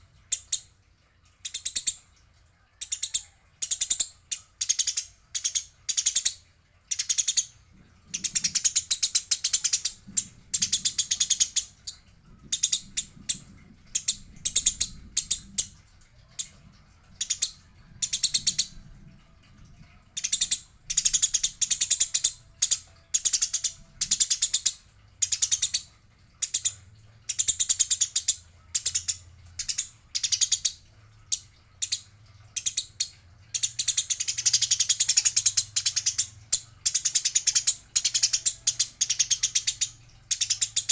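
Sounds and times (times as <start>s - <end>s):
sparrows chattering: 2.8s - 40.9s.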